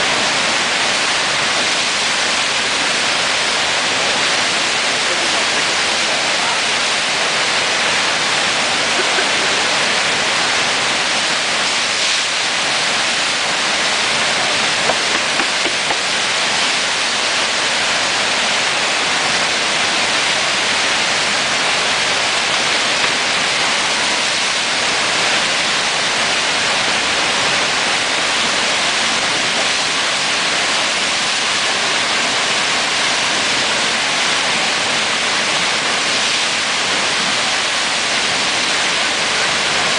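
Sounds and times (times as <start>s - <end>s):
whitewater rushing and churning: 0.0s - 39.9s.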